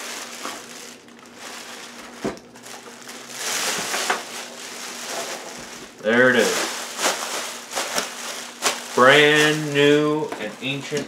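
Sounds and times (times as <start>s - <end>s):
plastic wrapping rustling: 0.0s - 11.0s.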